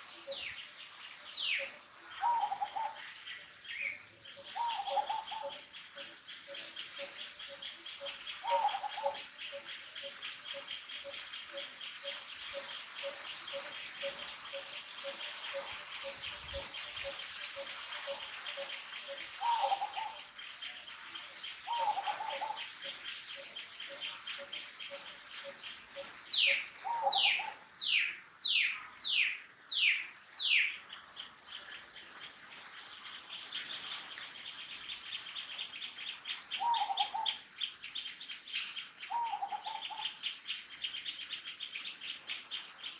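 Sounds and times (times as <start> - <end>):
mid-pitched bird calls: 1.4 - 20.6, 21.4 - 42.9.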